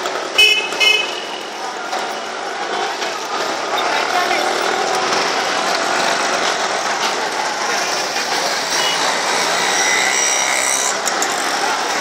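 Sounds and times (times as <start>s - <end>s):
auto-rickshaw engines: 0.0s - 12.0s
street traffic din: 0.0s - 12.0s.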